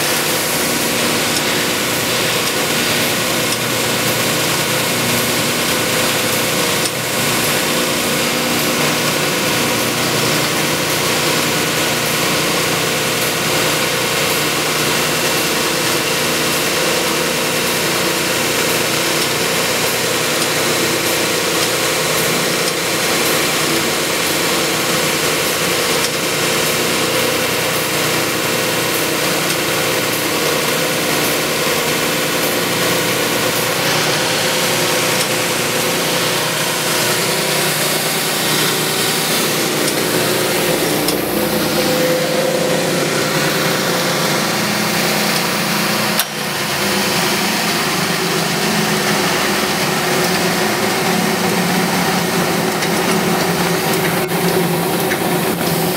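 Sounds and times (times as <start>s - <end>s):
belt grinder hum and whir: 0.0s - 55.9s.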